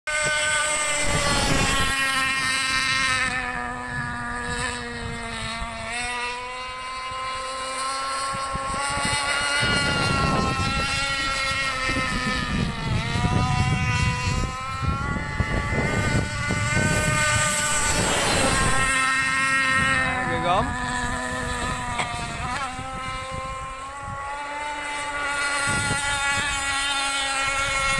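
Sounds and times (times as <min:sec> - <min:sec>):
model boat motor whine: 0:00.1 - 0:27.9.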